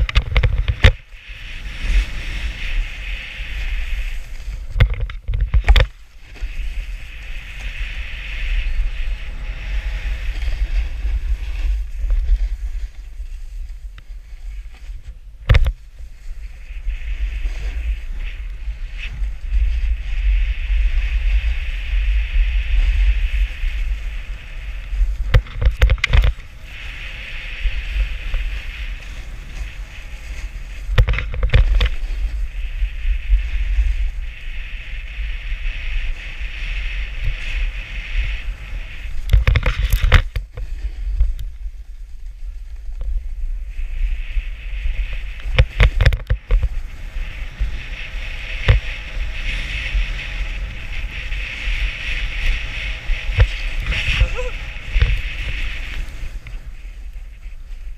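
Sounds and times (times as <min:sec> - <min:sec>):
snowboard edge scraping snow: 0:00.0 - 0:57.9
wind buffeting microphone: 0:00.0 - 0:57.9.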